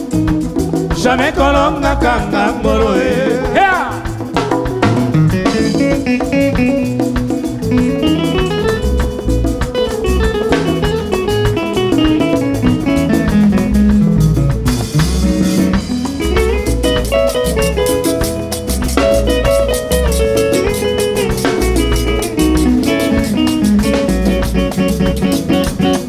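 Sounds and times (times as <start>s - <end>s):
bass guitar: 0.0s - 26.0s
drum kit dance beat: 0.0s - 26.0s
fast picked electric guitar: 0.0s - 26.0s.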